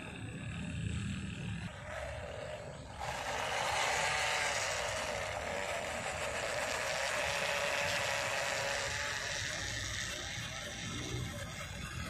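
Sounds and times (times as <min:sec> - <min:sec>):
electric motor whirring: 0:00.0 - 0:12.0.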